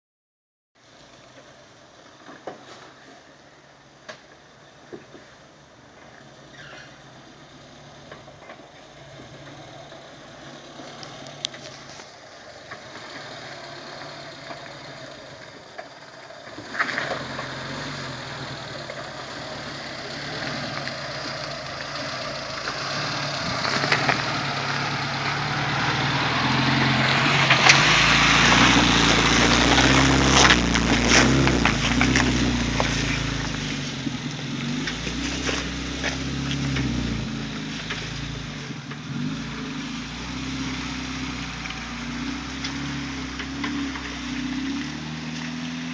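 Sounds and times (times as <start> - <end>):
car engine running at low revs: 0.8 - 45.9.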